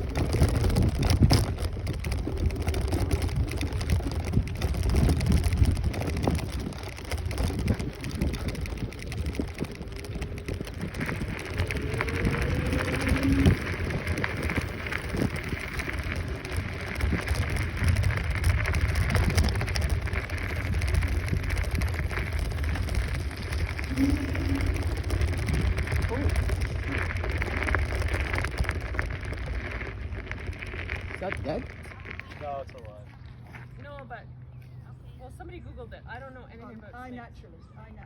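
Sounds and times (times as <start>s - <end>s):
wind rumbling on microphone: 0.0s - 37.0s
scooter tyre and road noise: 0.0s - 38.0s.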